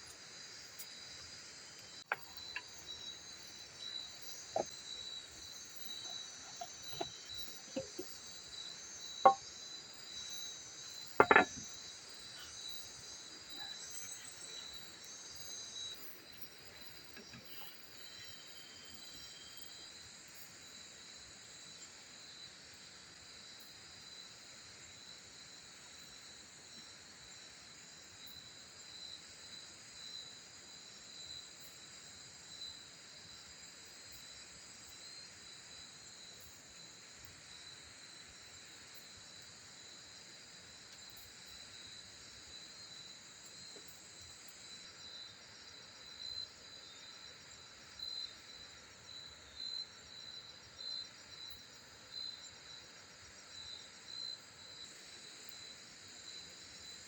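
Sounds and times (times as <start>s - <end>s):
insects trilling: 0.0s - 57.0s
loud insect chirps: 0.0s - 57.0s.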